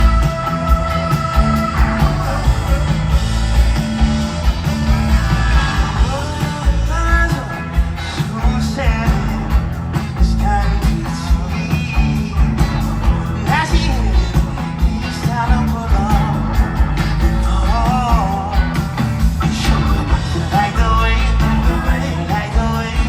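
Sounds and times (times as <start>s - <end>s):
guitar: 0.0s - 23.0s
heavy bass and drum beat: 0.0s - 23.0s
live band music: 0.0s - 23.0s.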